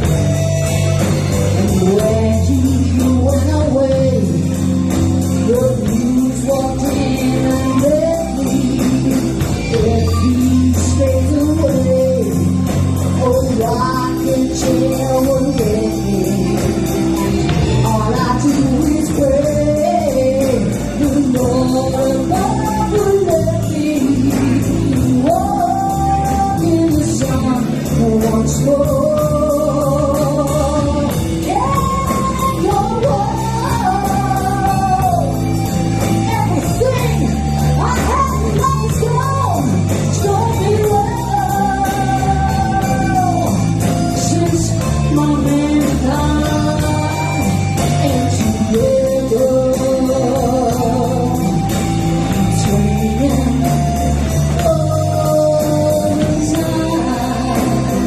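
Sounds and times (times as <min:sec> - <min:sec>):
blues band playing: 0:00.0 - 0:58.0.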